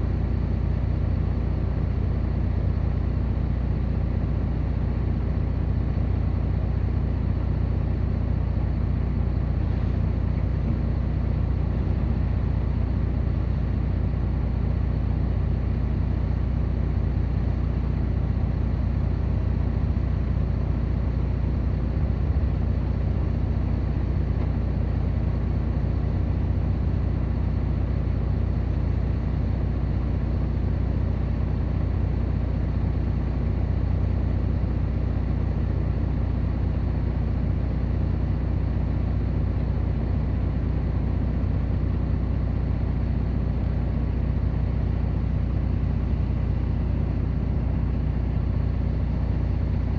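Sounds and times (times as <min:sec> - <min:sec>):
heavy diesel engine rumbling: 0:00.0 - 0:49.9.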